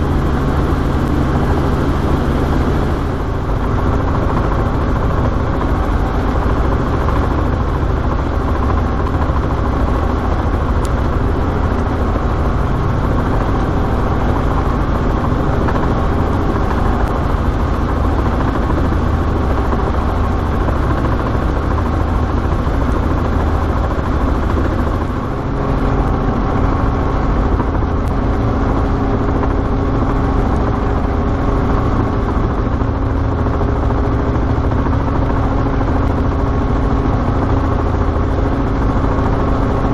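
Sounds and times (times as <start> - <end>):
helicopter engine and rotors: 0.0 - 39.9
steady low hum: 0.0 - 39.9.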